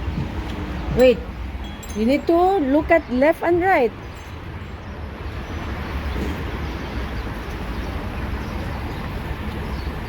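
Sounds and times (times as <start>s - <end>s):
heavy low outdoor rumble: 0.0s - 10.0s.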